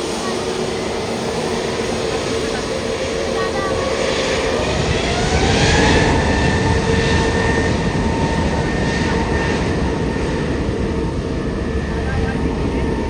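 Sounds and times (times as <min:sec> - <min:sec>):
jet engine with turbine whine: 0:00.0 - 0:13.0.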